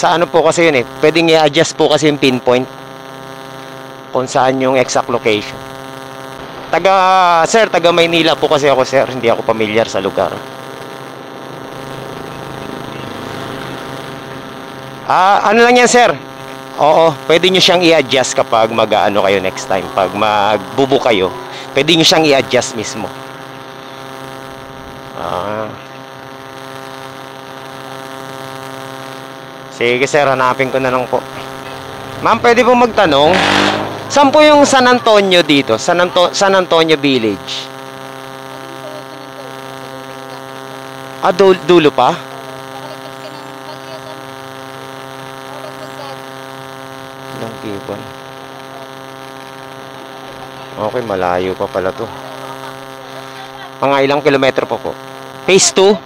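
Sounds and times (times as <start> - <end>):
steady hum of even tones: 0.0 - 56.0.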